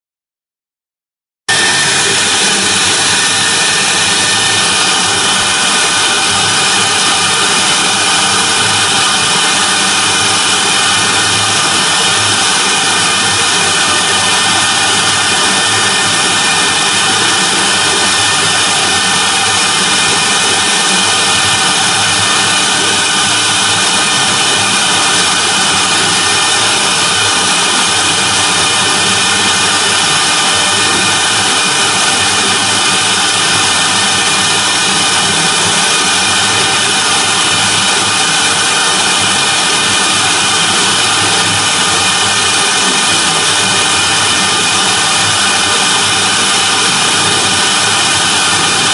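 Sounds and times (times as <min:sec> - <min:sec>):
router spindle whining: 0:01.5 - 0:48.9.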